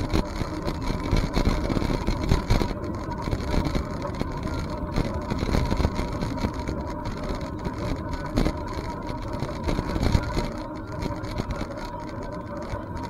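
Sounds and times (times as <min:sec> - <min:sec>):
bicycle knocks and rattles: 0:00.0 - 0:13.0
wind rumbling on microphone: 0:00.0 - 0:13.0.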